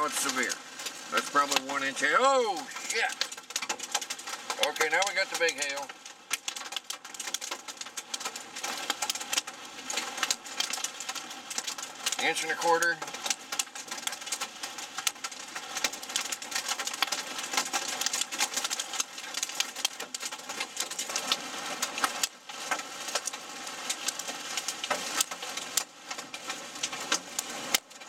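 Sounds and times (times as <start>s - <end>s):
hail clattering on vehicle roof: 0.0s - 28.0s
rain on vehicle: 0.0s - 28.0s.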